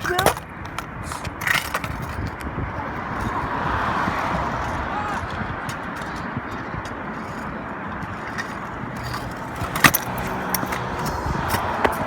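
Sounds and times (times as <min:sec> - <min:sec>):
kick scooter clacking on ground: 0:00.0 - 0:12.0
steady rushing noise: 0:00.0 - 0:12.0.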